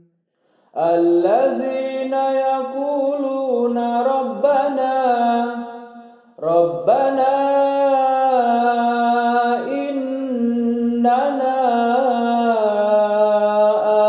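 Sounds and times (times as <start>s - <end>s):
man reciting melodically: 0.8s - 14.0s.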